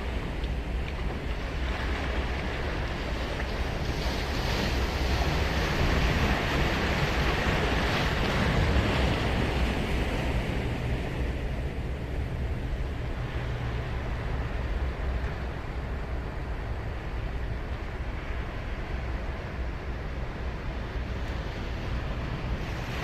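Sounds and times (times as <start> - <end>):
surf washing up a beach: 0.0 - 23.0.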